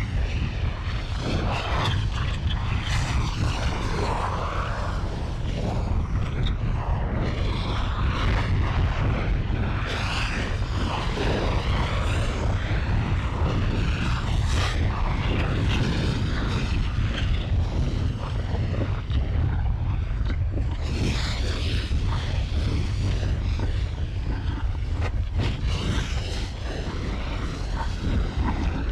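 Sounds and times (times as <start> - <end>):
deep volcanic rumble: 0.0 - 28.9
lava crackling and hissing: 0.0 - 28.9.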